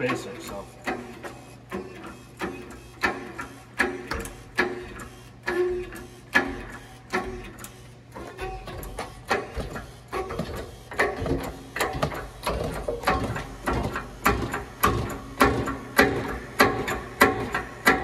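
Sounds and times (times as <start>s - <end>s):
hydraulic press pump clanking: 0.0s - 18.0s.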